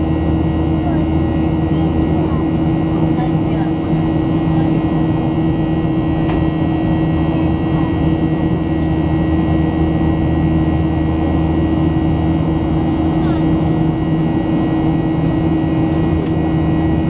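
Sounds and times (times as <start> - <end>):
airflow: 0.0 - 17.0
jet engine drone: 0.0 - 17.0.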